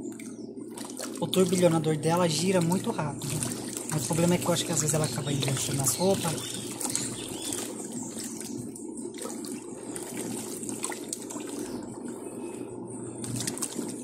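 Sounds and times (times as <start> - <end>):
washing tub churning water: 0.0 - 14.0.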